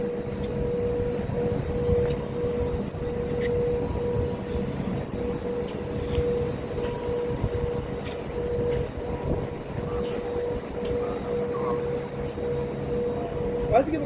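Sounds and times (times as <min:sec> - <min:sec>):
humming whine: 0:00.0 - 0:14.0
train rumble: 0:00.0 - 0:14.0.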